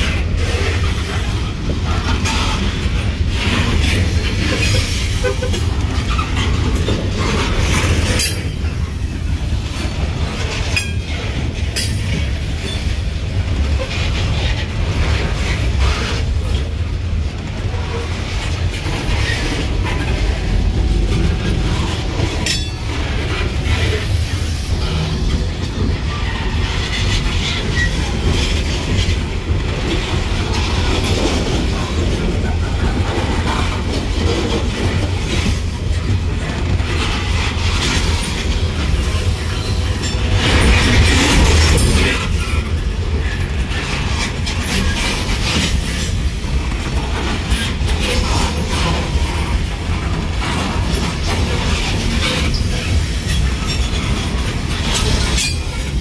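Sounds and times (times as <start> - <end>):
train wheels rumbling on rail: 0.0 - 56.0
wheels clicking over rail joints: 0.0 - 56.0.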